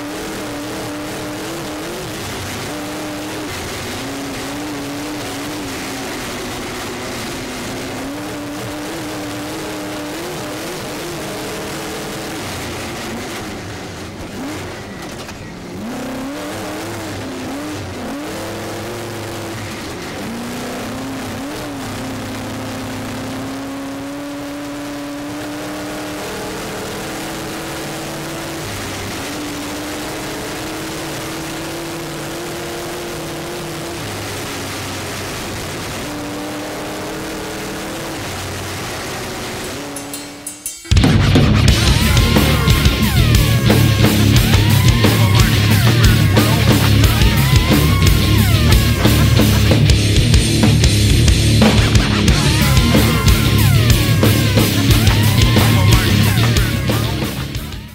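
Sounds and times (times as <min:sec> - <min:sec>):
road noise rushing: 0:00.0 - 0:57.9
truck engine revving: 0:00.0 - 0:57.9.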